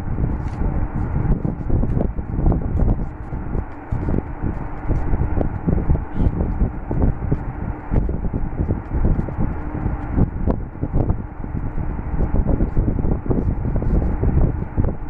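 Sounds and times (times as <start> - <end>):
low rumbling microphone noise: 0.0 - 15.0.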